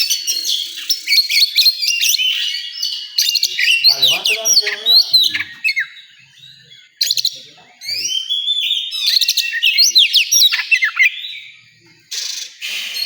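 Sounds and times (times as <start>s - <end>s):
bird singing whistled song: 0.0s - 13.0s.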